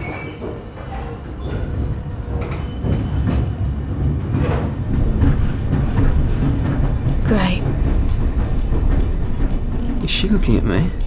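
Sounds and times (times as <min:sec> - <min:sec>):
train rumble: 0:00.0 - 0:11.0
wheels clicking and knocking: 0:00.0 - 0:11.0.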